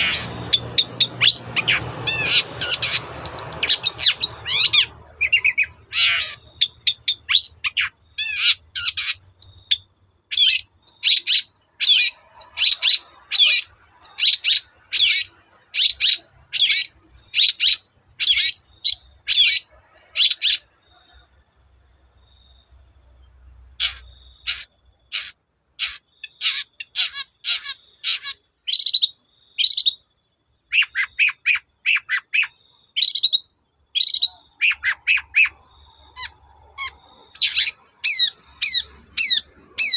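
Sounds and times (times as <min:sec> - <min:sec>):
shrike singing: 0:00.0 - 0:21.2, 0:23.8 - 0:30.0, 0:30.7 - 0:39.9.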